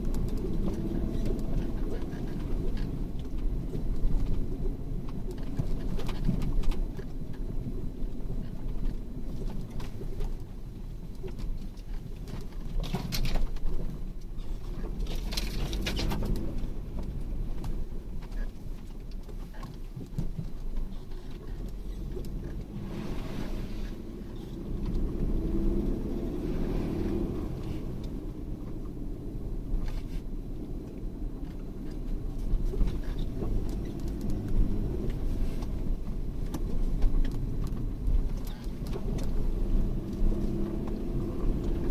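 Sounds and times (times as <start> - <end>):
vehicle engine rumble: 0.0 - 41.9.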